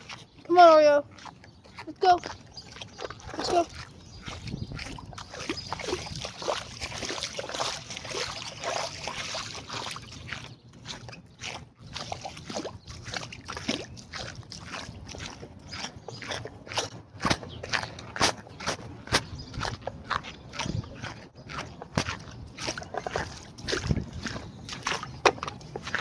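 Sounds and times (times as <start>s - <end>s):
floodwater splashing: 0.0s - 26.0s.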